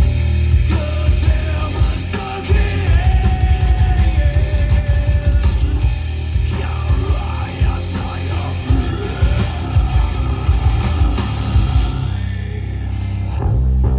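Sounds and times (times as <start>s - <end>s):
pounding drums: 0.0s - 12.1s
bass guitar: 0.0s - 13.9s
distorted electric guitars: 0.0s - 13.9s.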